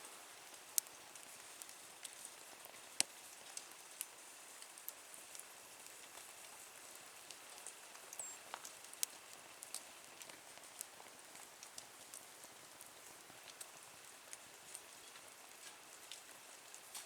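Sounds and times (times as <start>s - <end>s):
wood fire crackling in stove: 0.0s - 17.0s.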